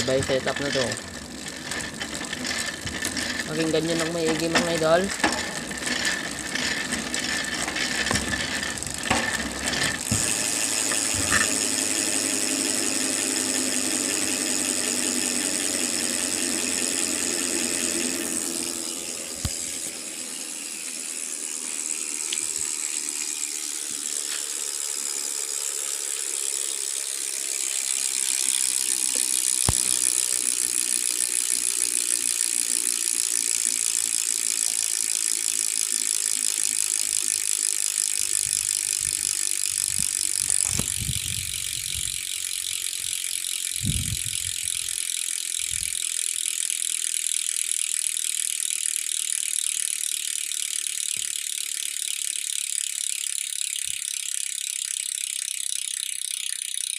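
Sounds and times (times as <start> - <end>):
bicycle freehub clicking: 0.0 - 56.9.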